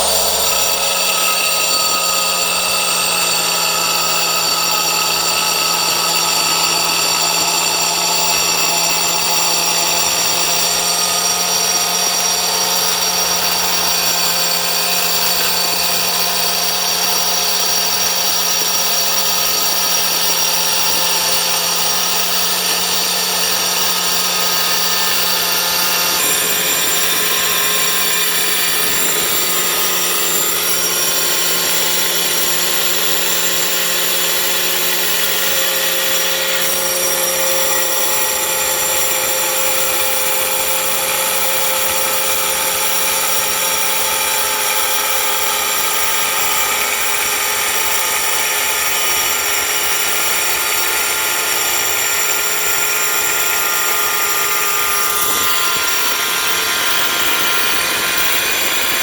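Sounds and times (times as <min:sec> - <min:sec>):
marble cutter motor whine: 0:00.0 - 0:59.0.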